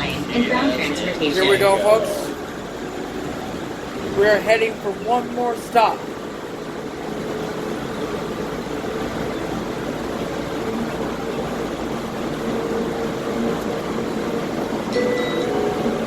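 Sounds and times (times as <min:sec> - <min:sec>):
train rumbling ride noise: 0:00.0 - 0:16.0.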